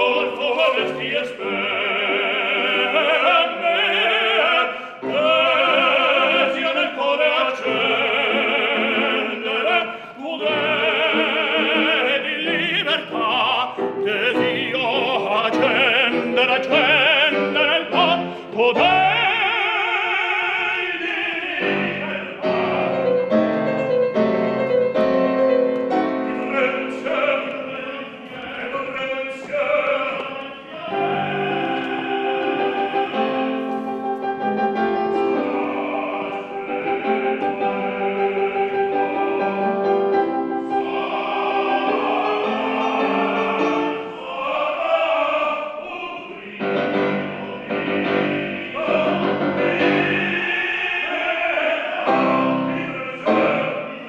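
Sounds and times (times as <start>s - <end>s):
operatic solo singing: 0.0s - 23.3s, 26.1s - 54.0s
piano: 0.0s - 54.0s.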